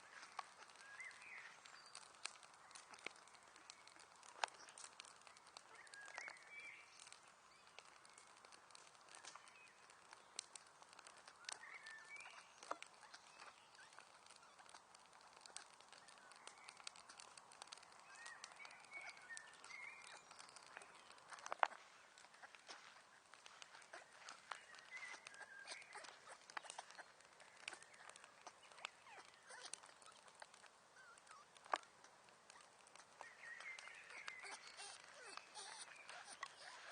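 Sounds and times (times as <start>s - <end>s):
faint bird chirps: 0.0s - 36.9s
wood fire crackling: 0.0s - 36.9s.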